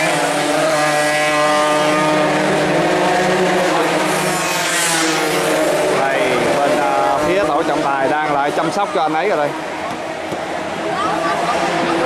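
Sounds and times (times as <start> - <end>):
two-stroke motorcycles revving: 0.0 - 12.0.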